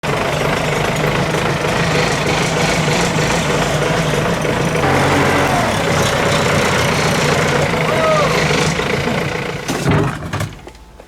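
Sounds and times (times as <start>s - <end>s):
diesel engine idling: 0.1s - 9.9s.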